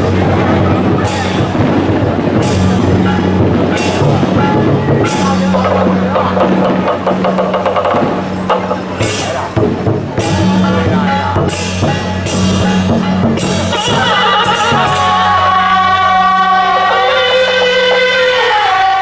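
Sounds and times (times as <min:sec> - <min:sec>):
cymbal crashes: 0:00.0 - 0:17.1
drumming: 0:00.0 - 0:19.0
held pitched melody line: 0:00.0 - 0:19.0.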